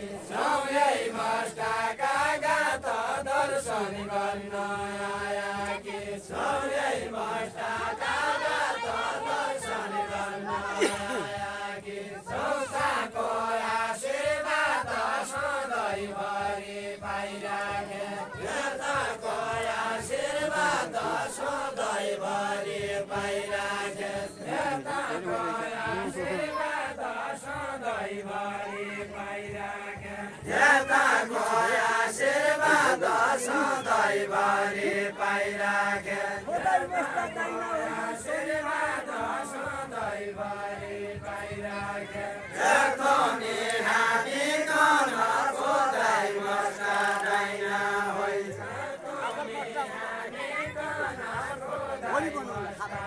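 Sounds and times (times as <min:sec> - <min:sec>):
group of men chanting a folk song: 0:00.0 - 0:53.0.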